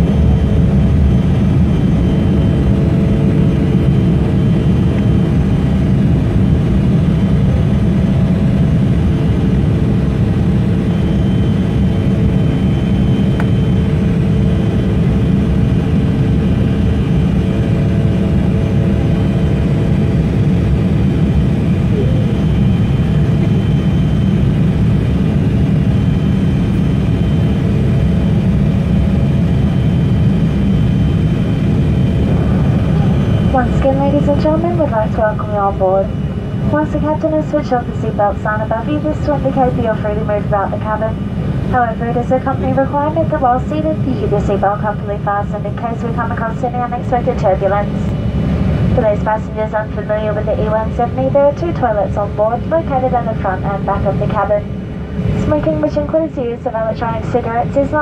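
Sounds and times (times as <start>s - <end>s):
jet engine deep rumble: 0.0s - 58.0s.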